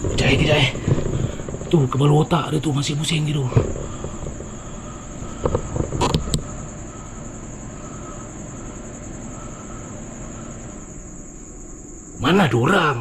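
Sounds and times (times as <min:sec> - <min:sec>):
ceiling fan whirring: 0:00.0 - 0:13.0.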